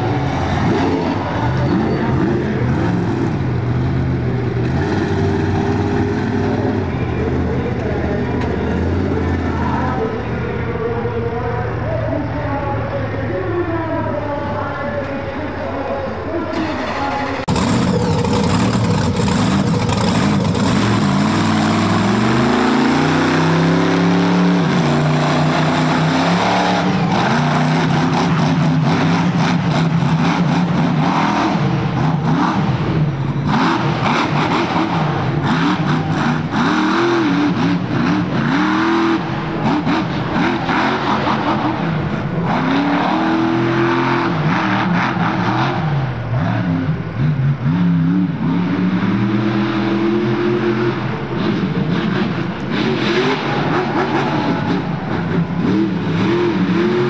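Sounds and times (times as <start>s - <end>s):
monster truck engine revving: 0.0s - 13.0s, 16.5s - 57.0s.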